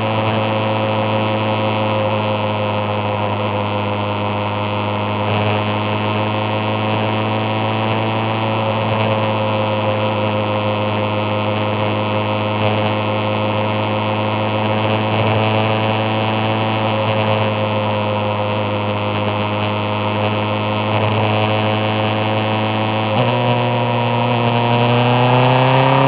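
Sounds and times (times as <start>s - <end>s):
motorcycle engine cruising: 0.0s - 26.0s
road and wind noise: 0.0s - 26.0s.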